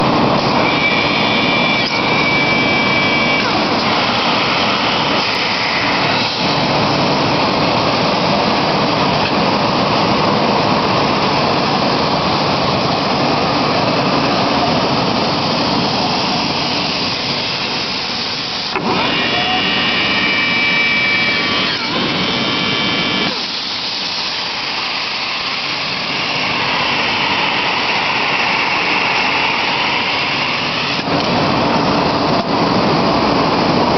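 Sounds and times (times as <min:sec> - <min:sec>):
high whining motors: 0:00.0 - 0:33.9
machine running: 0:00.0 - 0:33.9.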